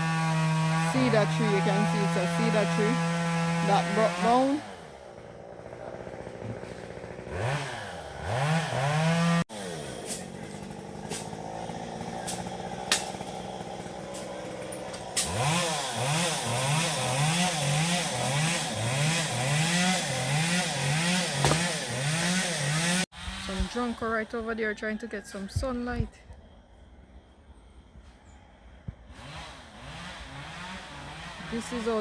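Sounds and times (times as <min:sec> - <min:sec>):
chainsaw engine revving: 0:00.0 - 0:24.1, 0:29.1 - 0:32.0.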